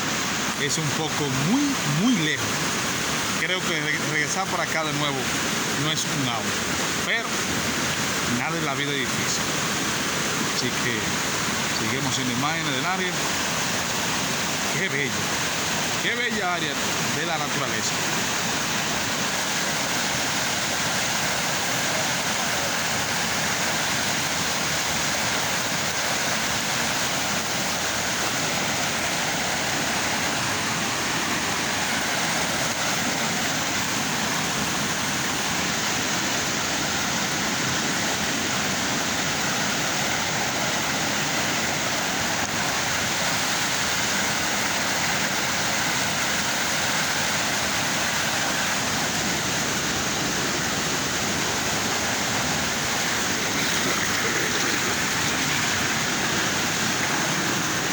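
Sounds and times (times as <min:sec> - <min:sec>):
river water rushing over rocks: 0:00.0 - 0:57.9.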